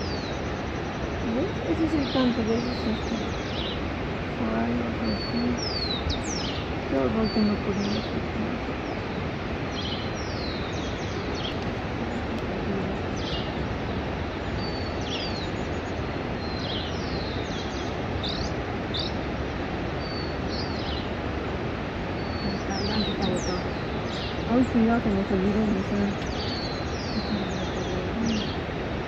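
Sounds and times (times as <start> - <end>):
small birds chirping: 0.0 - 29.0
steady rushing noise: 0.0 - 29.0.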